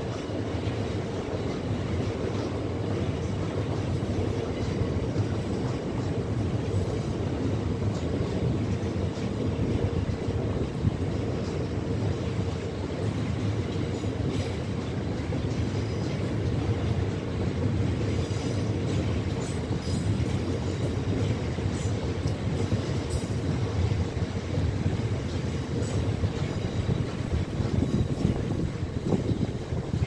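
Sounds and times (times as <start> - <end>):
faint rail clicks: 0.0 - 30.0
train wheels rumbling on rails: 0.0 - 30.0.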